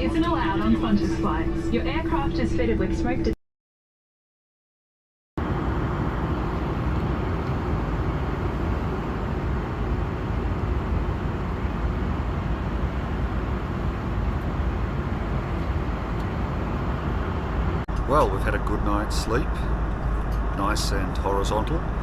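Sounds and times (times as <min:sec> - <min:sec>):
airliner cabin engine noise: 0:00.0 - 0:03.4, 0:05.4 - 0:22.0.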